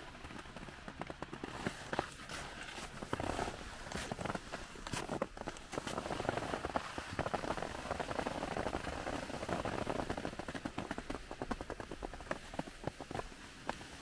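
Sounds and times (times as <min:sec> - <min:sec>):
skis scraping over snow: 0:00.0 - 0:14.0.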